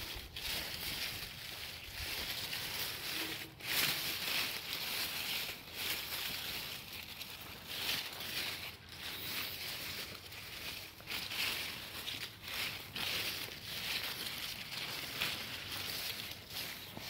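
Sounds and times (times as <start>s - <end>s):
wet leaves rustling: 0.0s - 17.0s.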